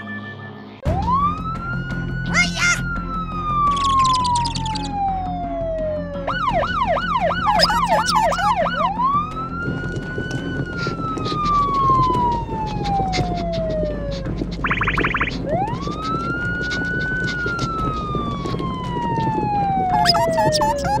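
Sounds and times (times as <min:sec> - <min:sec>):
police car siren: 0:00.8 - 0:21.0.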